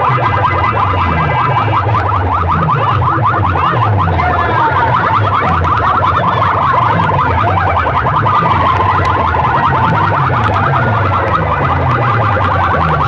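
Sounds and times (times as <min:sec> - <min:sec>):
heavy pulsing bass: 0:00.0 - 0:13.0
warbling electronic alarm-like tone: 0:00.0 - 0:13.0.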